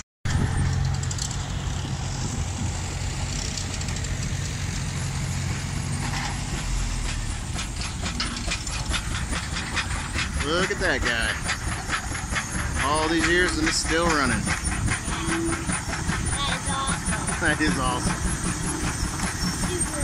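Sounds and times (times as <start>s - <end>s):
steam engine rumble: 0.3s - 20.0s.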